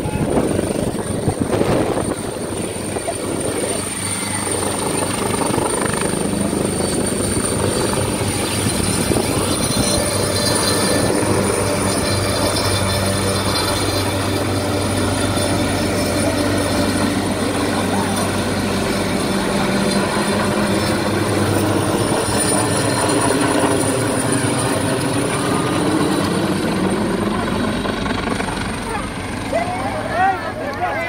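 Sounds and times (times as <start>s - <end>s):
helicopter rotor noise: 0.0s - 31.0s
high turbine whine: 0.0s - 31.0s.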